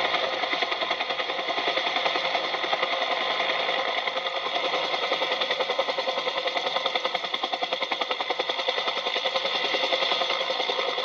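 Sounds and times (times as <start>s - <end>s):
small motor rattling: 0.0s - 11.0s.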